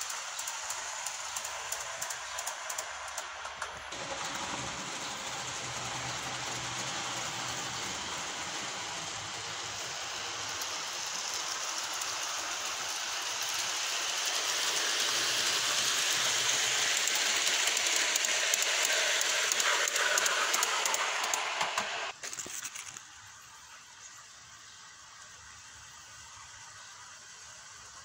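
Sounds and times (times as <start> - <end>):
model train wheels on rails: 0.0 - 28.0.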